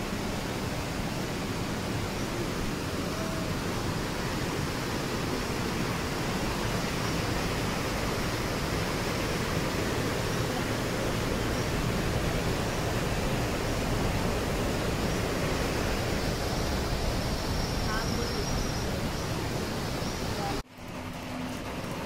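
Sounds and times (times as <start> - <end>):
water rushing over rocks: 0.0 - 20.6.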